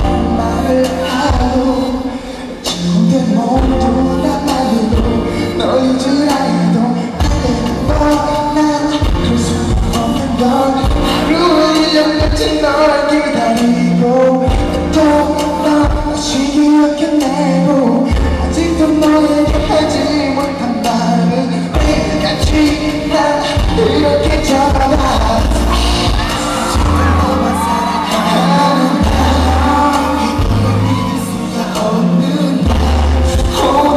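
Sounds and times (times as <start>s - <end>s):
live pop music with singing: 0.0s - 33.9s.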